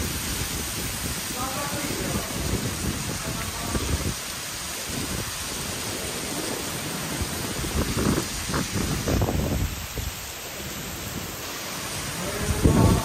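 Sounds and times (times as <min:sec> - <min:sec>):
heavy rain on pavement: 0:00.0 - 0:13.0.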